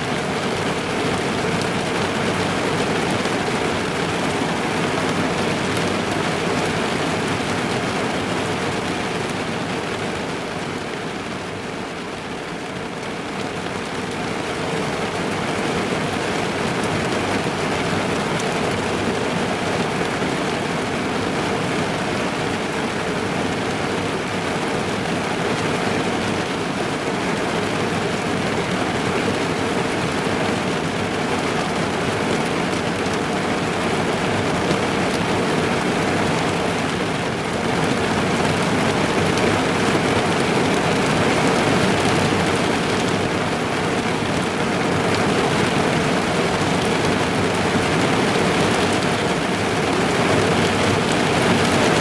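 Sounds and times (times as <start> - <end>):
rain on a car roof: 0.0 - 52.0.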